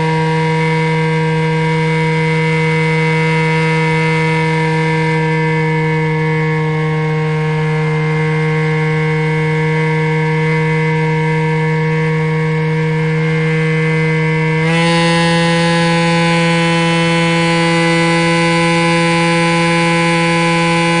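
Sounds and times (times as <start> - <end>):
model plane electric motor whining: 0.0 - 21.0.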